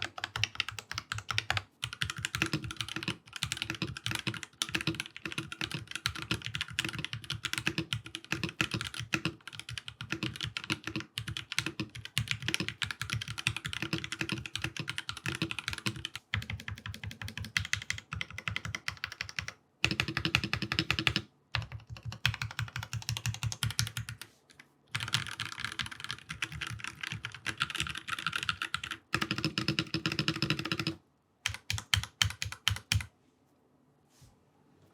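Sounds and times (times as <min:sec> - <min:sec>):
mechanical keyboard typing: 0:00.0 - 0:24.2, 0:24.9 - 0:33.1.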